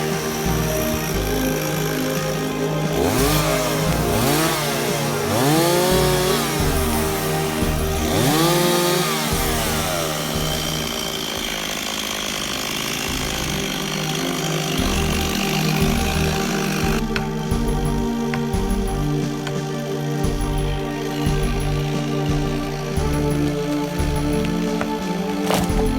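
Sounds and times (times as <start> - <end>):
chainsaw revving: 0.0 - 25.9.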